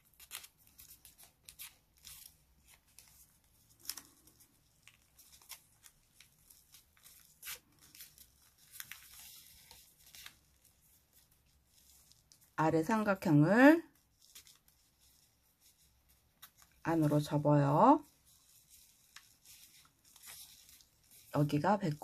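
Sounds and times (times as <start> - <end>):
paper rustling and crackling: 0.0 - 22.0.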